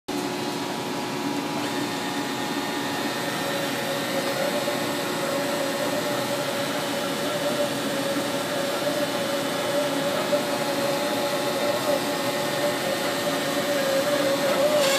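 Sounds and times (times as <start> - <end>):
band saw motor whine: 1.8 - 14.9.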